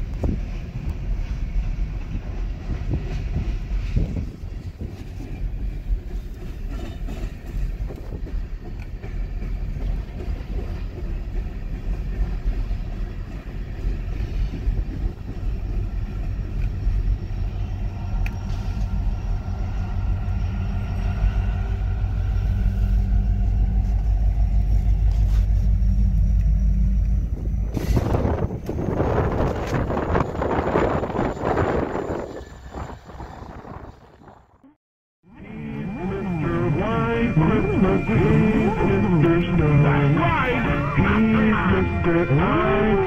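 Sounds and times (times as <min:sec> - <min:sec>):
train cars rolling rumble: 0:00.0 - 0:34.7
diesel locomotive engine drone: 0:00.0 - 0:43.0.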